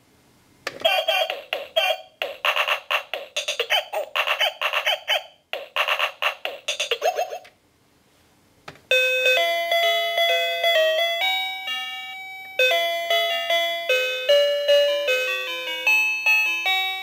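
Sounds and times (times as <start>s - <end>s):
toy piano electronic melody: 0.8s - 7.5s, 8.9s - 17.0s.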